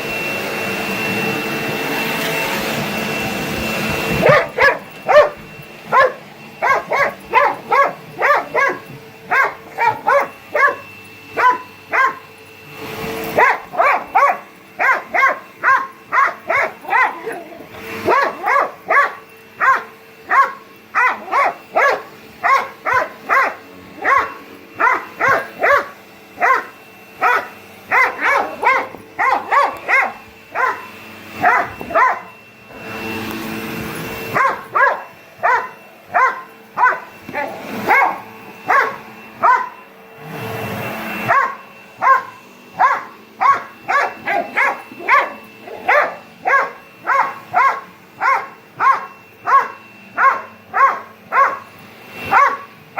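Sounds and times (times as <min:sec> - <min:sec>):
vacuum cleaner humming: 0:00.0 - 0:52.9
dog barking: 0:04.1 - 0:12.3, 0:13.3 - 0:32.3, 0:34.3 - 0:39.8, 0:41.2 - 0:52.8.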